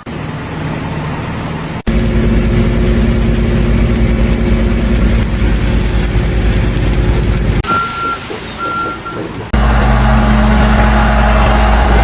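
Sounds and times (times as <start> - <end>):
large engine running: 0.0 - 8.1, 8.7 - 12.0.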